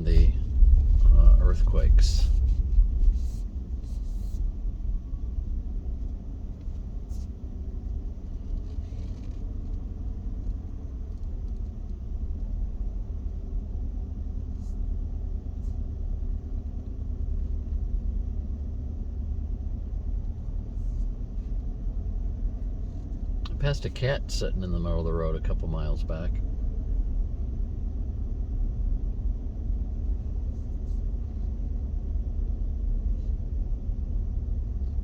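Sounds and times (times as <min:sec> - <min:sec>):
car interior road rumble: 0:00.0 - 0:35.0.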